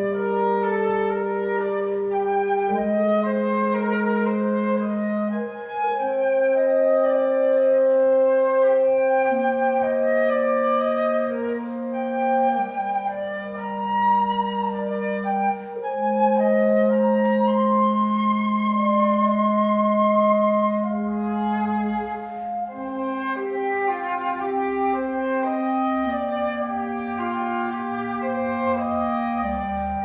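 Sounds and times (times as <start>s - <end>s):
clarinet long low notes: 0.0s - 30.0s
woodwind notes above: 0.0s - 30.0s.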